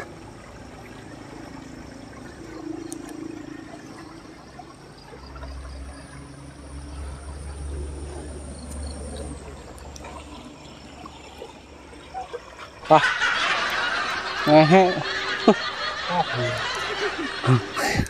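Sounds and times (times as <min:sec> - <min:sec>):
water flowing and trickling: 0:00.0 - 0:18.0.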